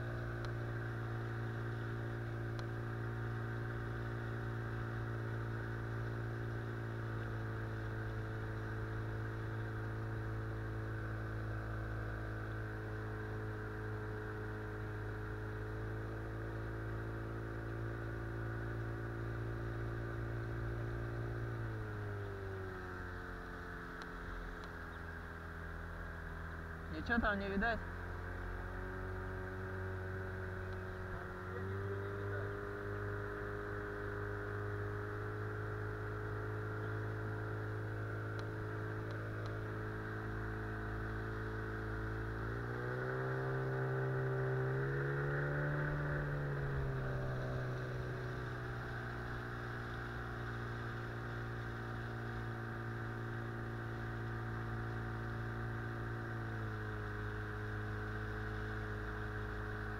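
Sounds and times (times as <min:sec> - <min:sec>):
small outboard motor running: 0:00.0 - 0:59.9.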